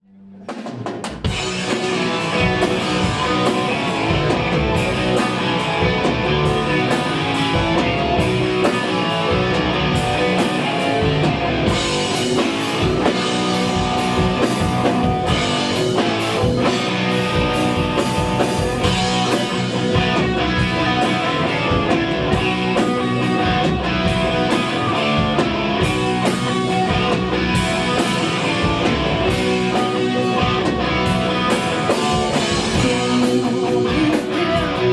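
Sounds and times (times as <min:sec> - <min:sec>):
hard rock band playing live: 0:00.4 - 0:34.9.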